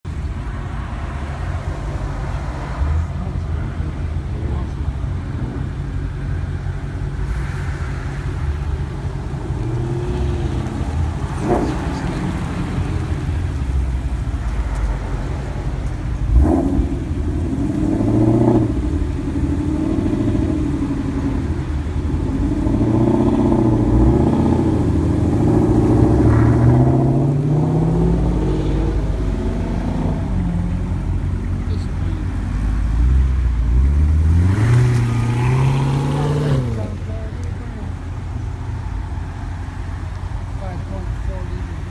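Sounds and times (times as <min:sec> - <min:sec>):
car engines rumbling: 0:00.0 - 0:41.9
engine revving: 0:00.9 - 0:41.9.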